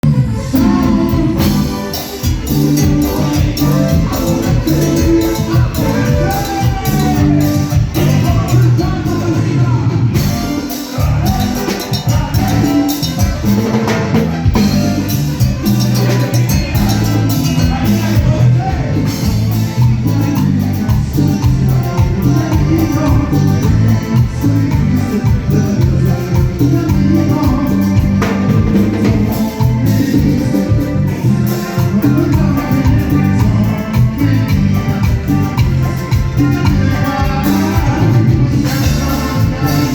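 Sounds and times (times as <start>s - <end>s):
band playing latin dance music: 0.0s - 39.9s.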